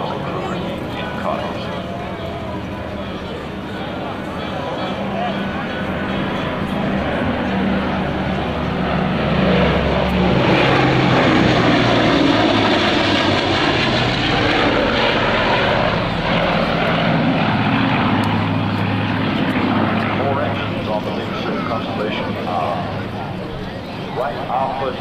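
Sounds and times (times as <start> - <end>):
propeller airliner droning: 0.0 - 25.0.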